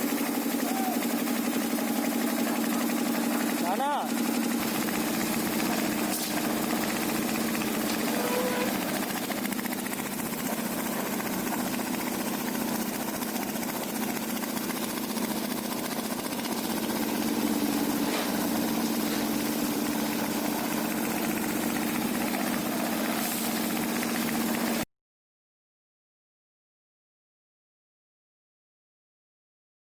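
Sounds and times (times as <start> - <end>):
engine droning: 0.0 - 24.8.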